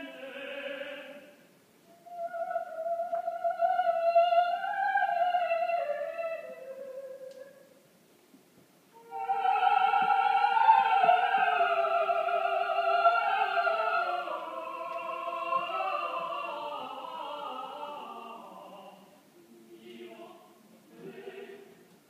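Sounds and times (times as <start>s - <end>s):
opera singers singing a duet: 0.0s - 7.7s, 9.0s - 21.9s.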